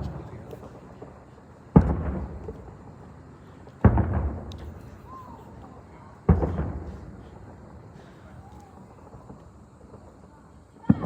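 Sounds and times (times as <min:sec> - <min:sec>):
firework shells booming: 0:00.0 - 0:11.0.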